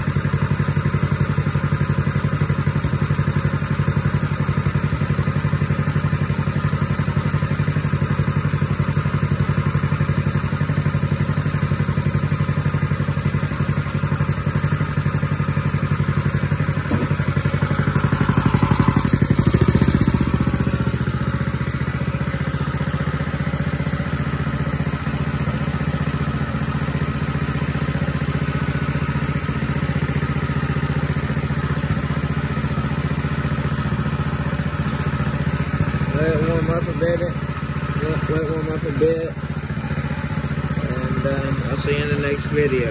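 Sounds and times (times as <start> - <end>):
small gasoline engine running: 0.0 - 42.9.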